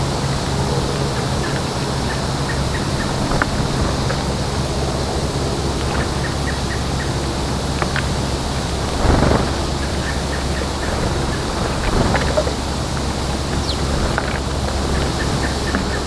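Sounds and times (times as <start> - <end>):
low hum: 0.0 - 16.0
outdoor background rush: 0.0 - 16.0
small birds chirping: 0.9 - 16.0.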